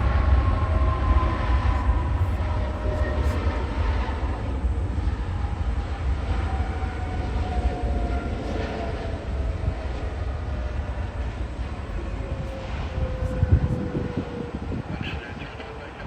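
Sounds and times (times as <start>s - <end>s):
faint whining tones: 0.0s - 16.0s
jet engines at takeoff: 0.0s - 16.0s.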